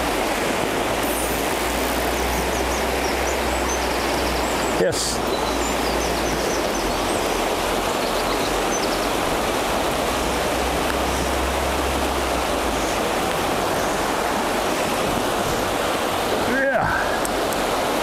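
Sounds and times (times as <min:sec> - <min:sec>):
river water rushing over rapids: 0:00.0 - 0:18.0.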